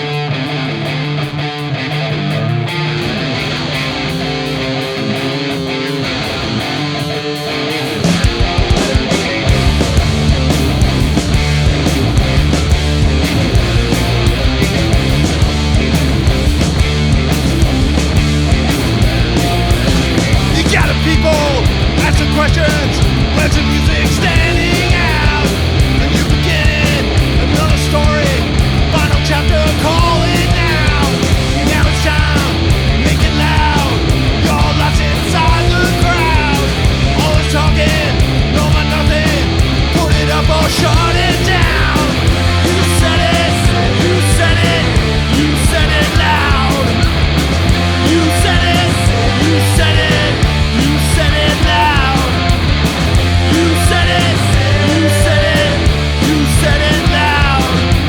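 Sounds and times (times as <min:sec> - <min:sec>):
punk rock band playing: 0:00.0 - 0:58.0.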